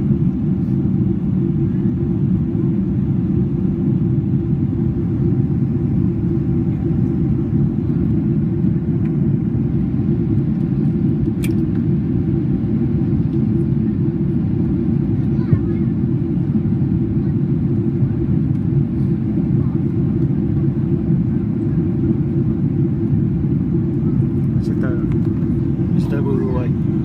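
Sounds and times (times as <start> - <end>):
airflow noise in cabin: 0.0 - 27.0
jet engine rumble: 0.0 - 27.0.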